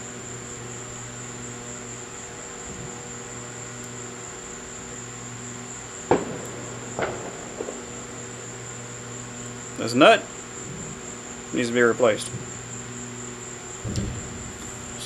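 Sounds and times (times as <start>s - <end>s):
low hum: 0.0s - 11.6s, 12.2s - 15.0s.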